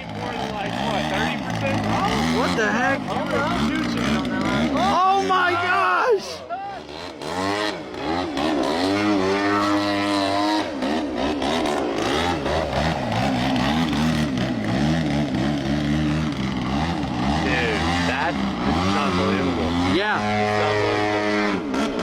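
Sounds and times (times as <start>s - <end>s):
model airplane engine swooping: 0.0s - 22.0s.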